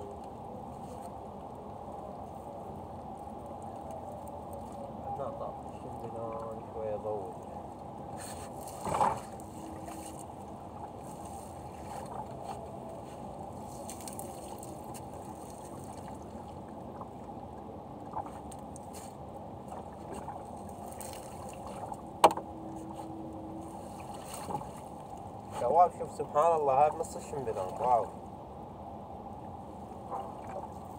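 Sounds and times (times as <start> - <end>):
water and wet netting washing: 0.0 - 28.3, 29.8 - 30.9.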